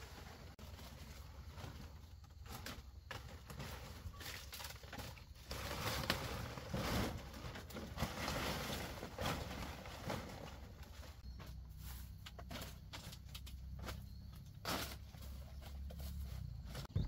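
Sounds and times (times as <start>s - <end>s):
palm fronds rustling: 0.0s - 16.9s.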